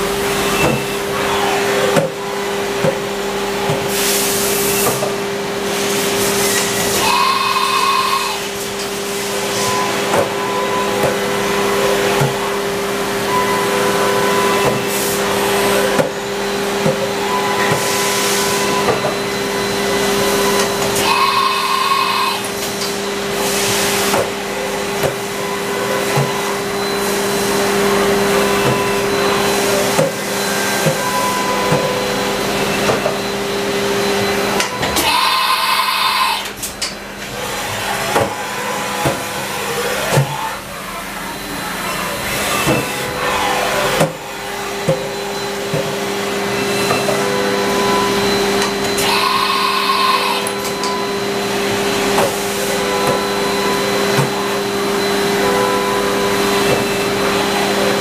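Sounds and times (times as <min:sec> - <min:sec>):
machining center mechanical hum: 0:00.0 - 0:58.0.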